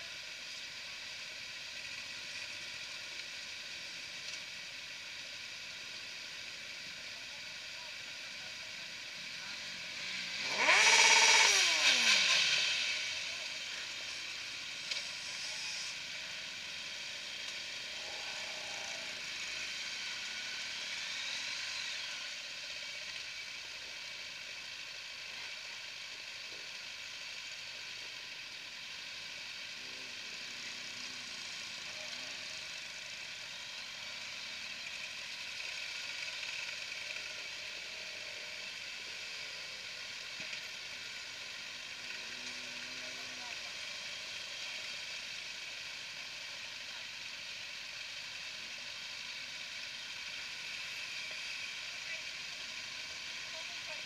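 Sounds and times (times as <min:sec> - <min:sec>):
many motorcycles running: 0:00.0 - 0:54.0.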